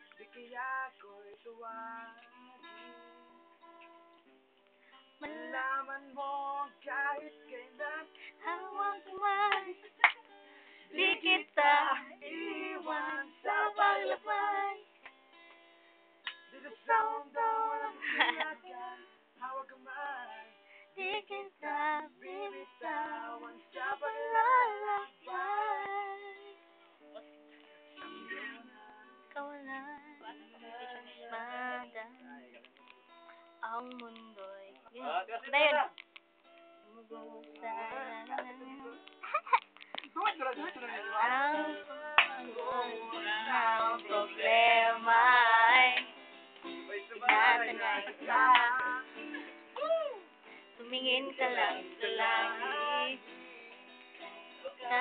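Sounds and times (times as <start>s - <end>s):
woman singing: 0.0s - 3.0s, 5.2s - 10.2s, 10.9s - 14.9s, 16.5s - 26.6s, 28.0s - 32.5s, 33.6s - 36.0s, 36.9s - 39.2s, 40.0s - 46.2s, 46.8s - 49.2s, 49.8s - 55.0s
soft music backing: 0.0s - 55.0s.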